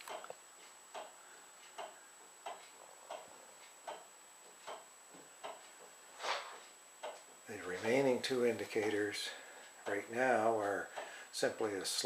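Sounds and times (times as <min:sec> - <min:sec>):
soft even ticking: 0:00.0 - 0:06.0, 0:06.6 - 0:12.0
faint high-pitched whine: 0:00.0 - 0:12.0.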